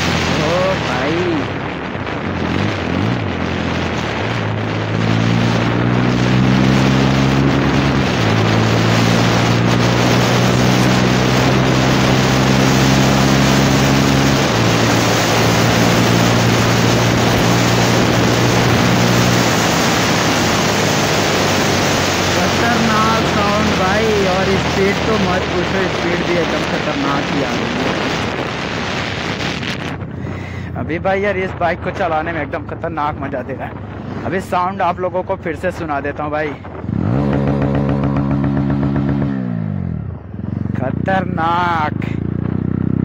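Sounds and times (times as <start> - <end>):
motorcycle engine running: 0.0 - 30.8, 36.6 - 43.0
wind rushing over microphone: 0.0 - 43.0.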